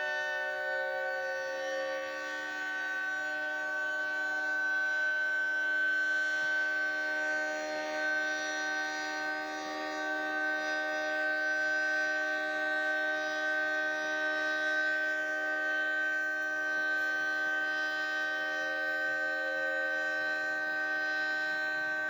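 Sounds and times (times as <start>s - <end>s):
warning siren steady tone: 0.0s - 22.0s.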